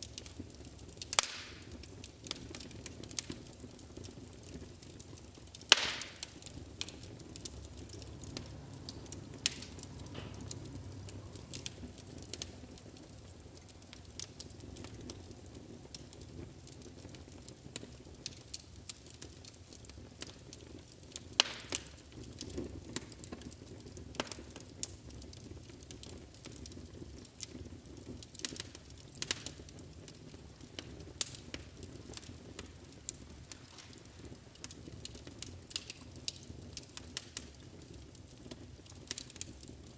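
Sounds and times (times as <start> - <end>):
fire snaps and pops: 0.0 - 39.9
low rumble of flames: 0.0 - 39.9.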